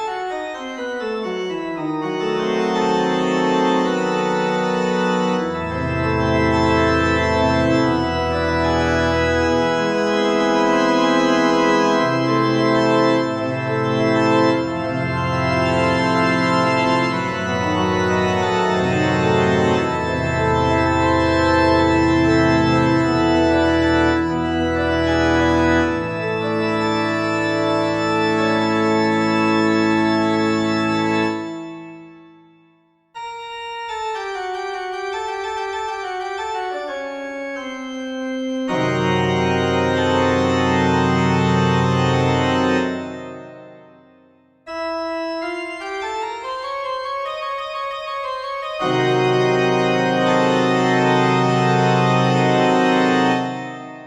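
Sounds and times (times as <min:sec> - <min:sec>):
organ music: 0:00.0 - 0:32.6, 0:33.2 - 0:54.0.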